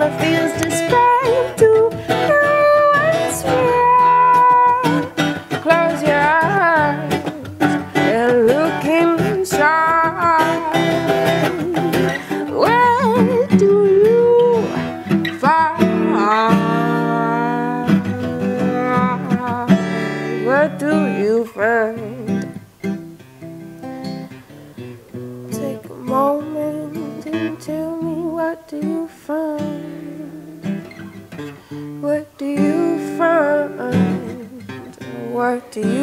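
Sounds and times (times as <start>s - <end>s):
woman singing wordless soul runs: 0.0s - 22.6s, 25.5s - 30.7s, 32.0s - 36.0s
strummed acoustic guitar: 0.0s - 36.0s.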